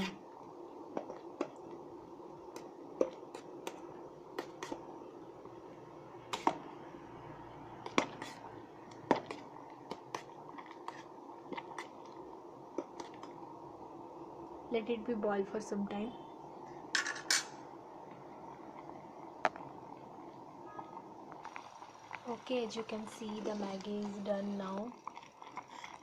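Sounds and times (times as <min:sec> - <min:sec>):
water boiling in a kettle: 0:00.0 - 0:26.0.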